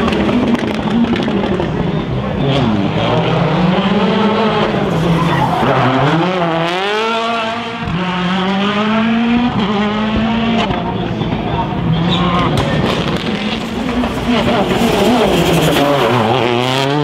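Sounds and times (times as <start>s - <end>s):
rally car engine passing: 0.0s - 17.0s.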